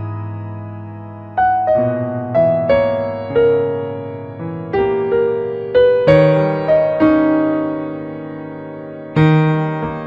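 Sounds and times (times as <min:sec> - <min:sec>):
simple keyboard melody: 0:00.0 - 0:10.0.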